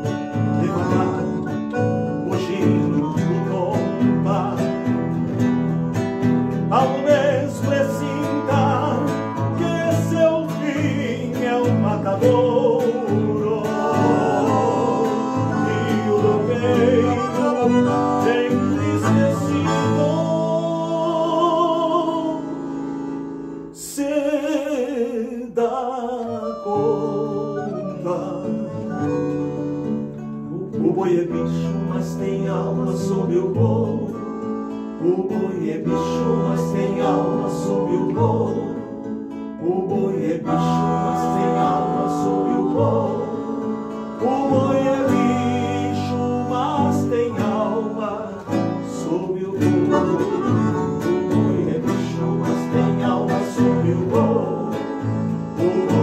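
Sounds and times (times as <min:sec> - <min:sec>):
man singing: 0:00.0 - 0:05.7, 0:06.6 - 0:56.0
accordion: 0:00.0 - 0:25.2, 0:25.8 - 0:56.0
acoustic guitar: 0:00.0 - 0:56.0.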